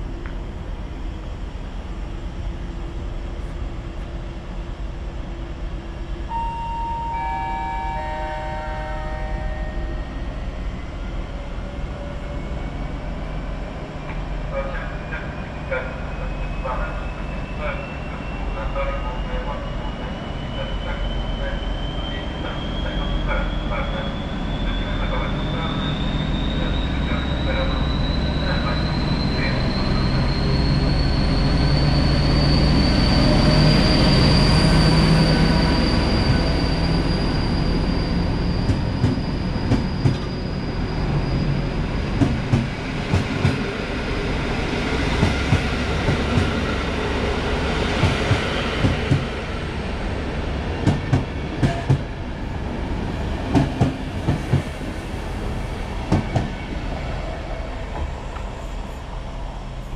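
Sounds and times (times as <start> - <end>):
train rumble: 7.6 - 59.9.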